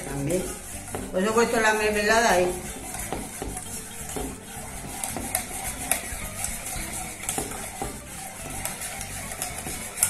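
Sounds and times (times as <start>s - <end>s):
whisk stirring in saucepan: 0.0s - 10.0s
whisk ticking on pan sides: 0.0s - 10.0s.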